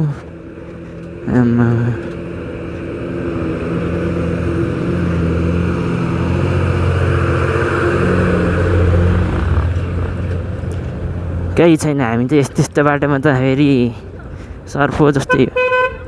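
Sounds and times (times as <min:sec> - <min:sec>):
bus engine passing: 0:00.0 - 0:16.0.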